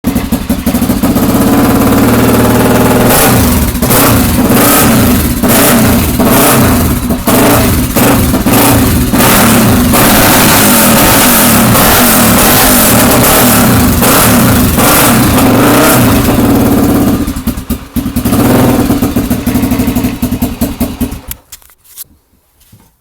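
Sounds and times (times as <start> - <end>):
motorcycle engine revving: 0.0 - 21.5.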